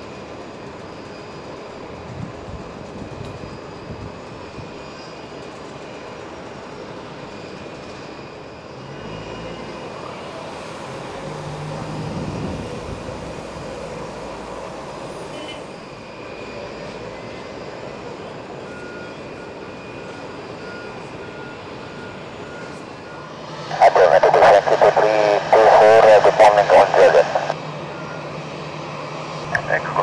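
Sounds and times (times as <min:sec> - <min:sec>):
turboprop engines running: 0:00.0 - 0:30.0.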